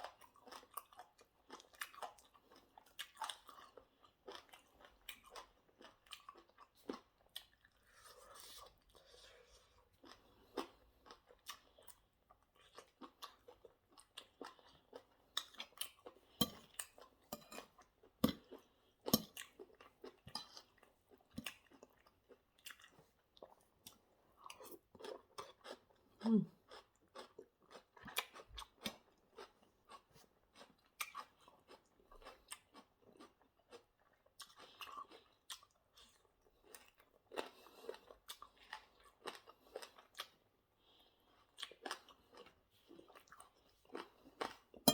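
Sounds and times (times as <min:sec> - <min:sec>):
chewing and crunching food: 0:00.0 - 0:44.9.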